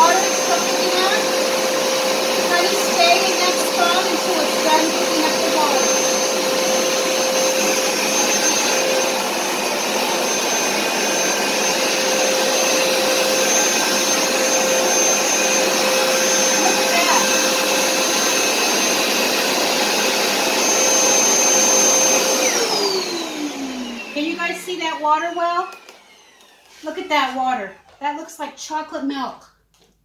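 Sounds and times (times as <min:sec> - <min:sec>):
carpet cleaner motor whining: 0:00.0 - 0:28.0.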